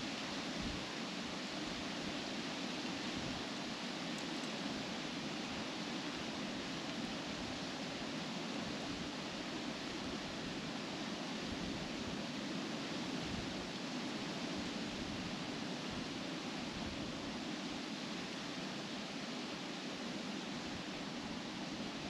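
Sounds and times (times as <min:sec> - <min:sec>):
wind rustling leaves: 0:00.0 - 0:22.0.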